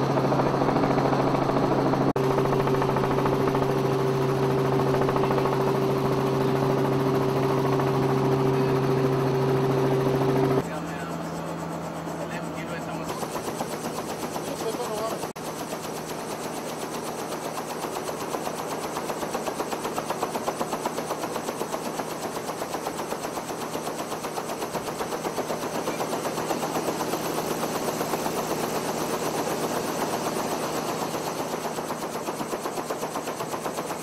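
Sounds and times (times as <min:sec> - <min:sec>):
light aircraft engine running: 0:00.0 - 0:34.0.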